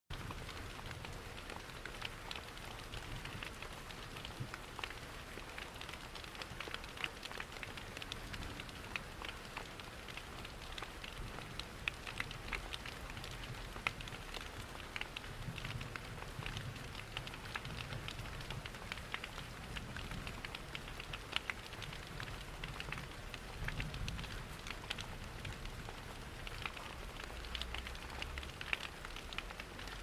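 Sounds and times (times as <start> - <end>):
falling water rumble: 0.1 - 30.0
fire crackles and pops: 0.1 - 30.0.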